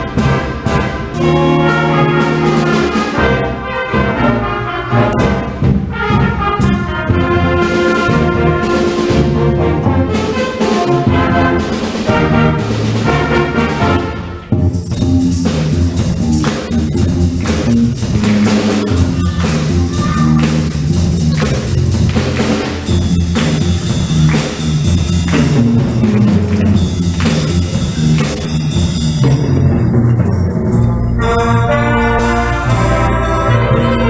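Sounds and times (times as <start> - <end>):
drum kit: 0.0 - 34.0
jazz band playing: 0.0 - 34.0
walking bass line: 0.0 - 34.0.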